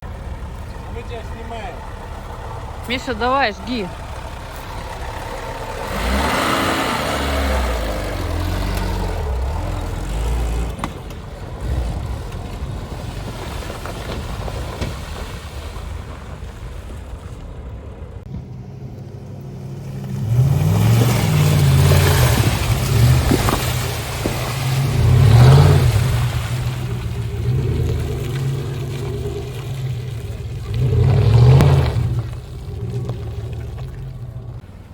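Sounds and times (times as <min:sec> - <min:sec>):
off-road vehicle engine revving: 0:00.0 - 0:14.9, 0:18.3 - 0:34.9.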